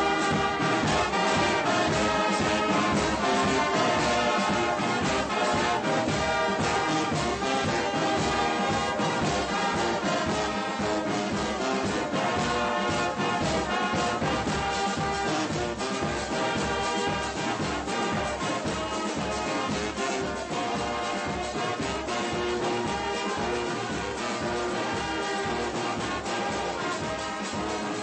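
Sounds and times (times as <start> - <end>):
brass band playing: 0.0 - 28.0
drums beating: 0.0 - 28.0.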